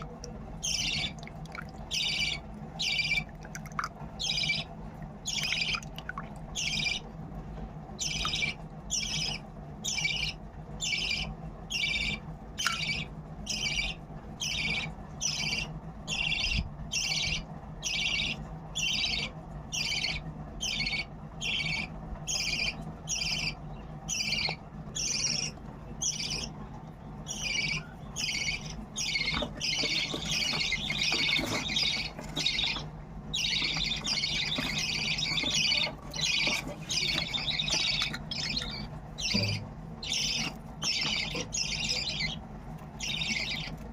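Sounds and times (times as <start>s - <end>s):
budgerigar chicks begging calls: 0.0s - 7.2s, 7.9s - 43.9s.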